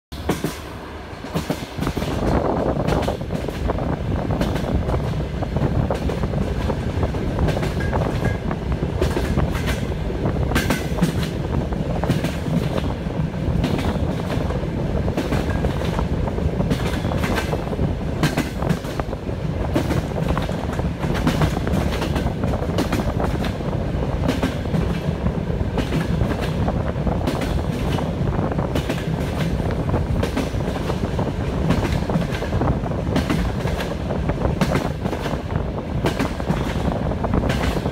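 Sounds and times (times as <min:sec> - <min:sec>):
train wheels rumbling on rails: 0:00.1 - 0:37.9.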